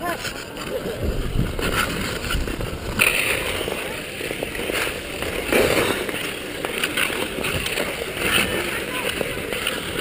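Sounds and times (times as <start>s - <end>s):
ice skate blades scraping: 0.0s - 10.0s.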